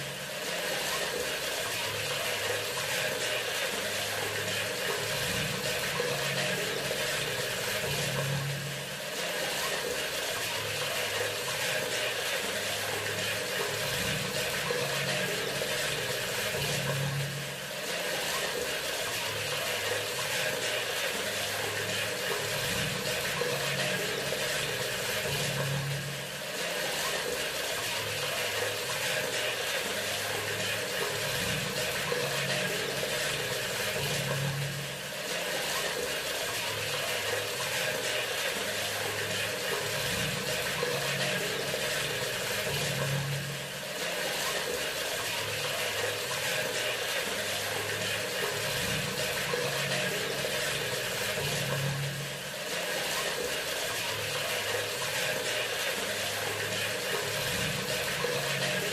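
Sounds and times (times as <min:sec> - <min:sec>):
faucet running water: 0:00.0 - 0:58.9.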